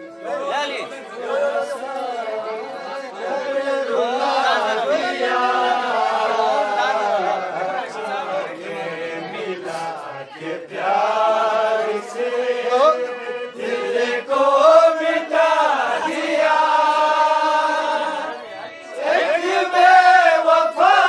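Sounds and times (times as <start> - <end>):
man singing: 0.0 - 21.0.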